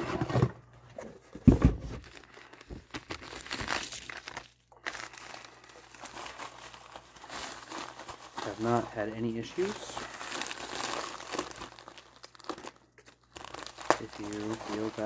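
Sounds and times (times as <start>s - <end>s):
envelopes crumpling and rustling: 0.0s - 15.0s.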